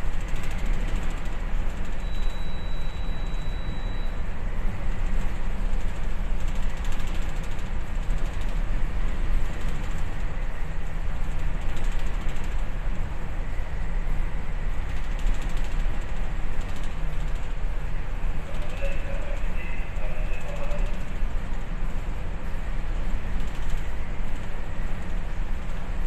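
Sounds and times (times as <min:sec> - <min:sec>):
ship's engine rumble: 0:00.0 - 0:26.0
wind: 0:00.0 - 0:26.0.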